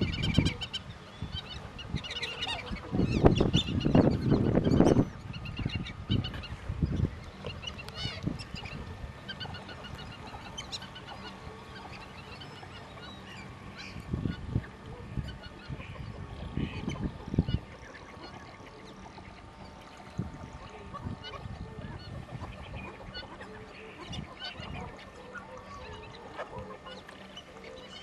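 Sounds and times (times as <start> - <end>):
ducks and geese honking: 0.0 - 28.0.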